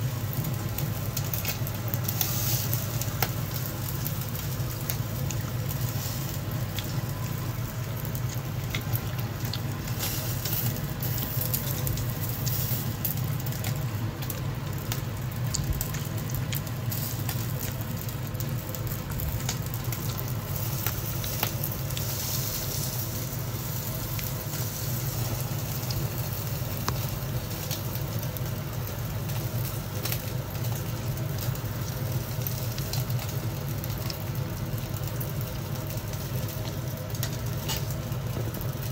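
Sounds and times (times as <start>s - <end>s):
fish sizzling on a grill: 0.0s - 38.9s.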